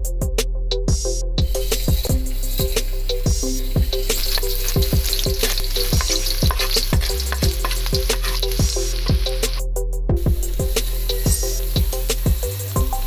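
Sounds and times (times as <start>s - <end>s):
background music with a beat: 0.0s - 13.0s
garlic sizzling in hot oil: 1.5s - 9.6s, 10.4s - 13.0s.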